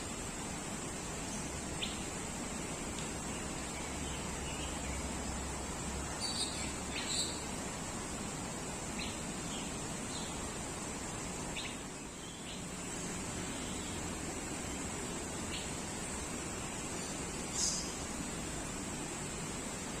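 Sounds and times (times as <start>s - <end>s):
high-pitched hiss: 0.0s - 20.0s
birds chirping: 1.1s - 8.0s, 8.8s - 18.4s.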